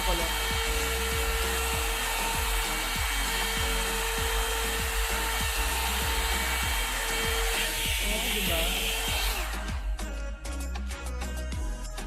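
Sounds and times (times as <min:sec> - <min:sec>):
hot-air brush blowing: 0:00.0 - 0:10.2.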